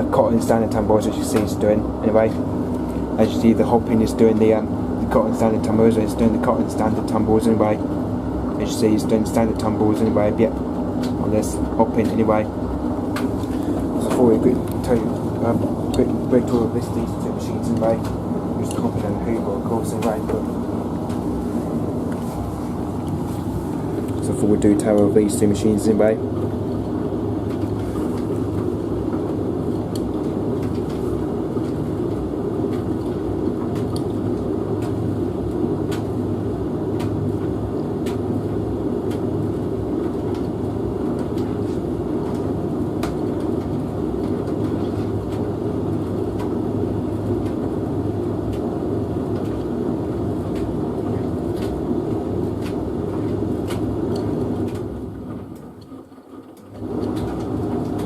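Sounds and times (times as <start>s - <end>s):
tumble dryer running: 0.0s - 58.0s
washing machine tumbling: 0.0s - 58.0s.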